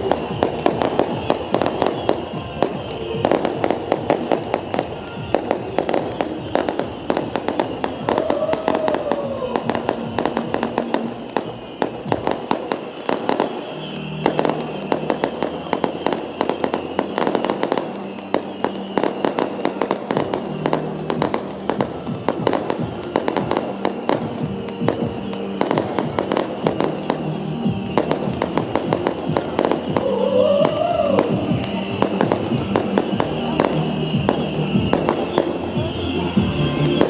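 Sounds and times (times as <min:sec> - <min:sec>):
firework rockets cracking and popping: 0:00.0 - 0:37.0.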